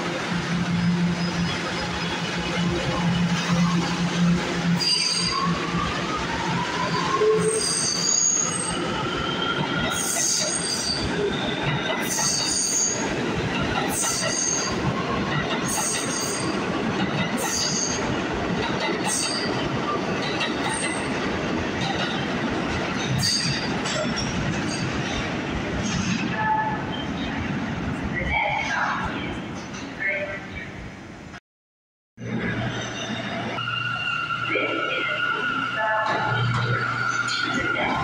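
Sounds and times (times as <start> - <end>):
subway train rumbling past: 0.0 - 31.4.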